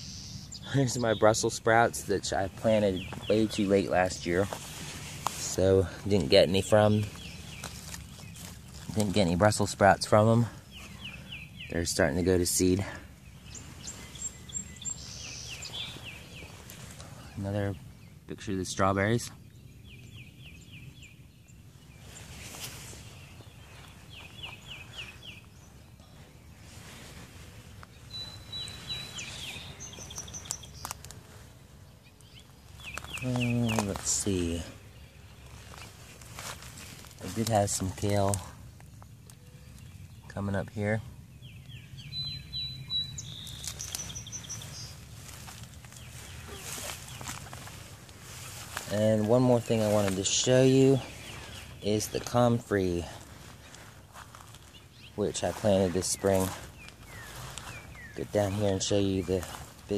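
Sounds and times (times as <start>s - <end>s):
low outdoor background: 0.0s - 59.9s
songbird singing falling notes: 0.0s - 59.9s.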